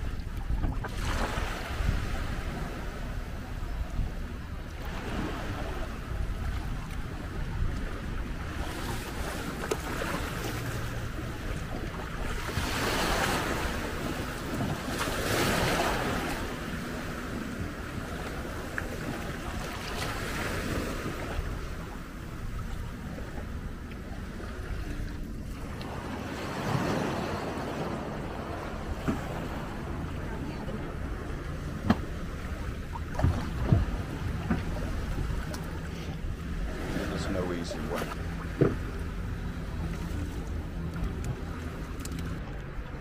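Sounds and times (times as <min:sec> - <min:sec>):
water splashing against boat: 0:00.0 - 0:43.0.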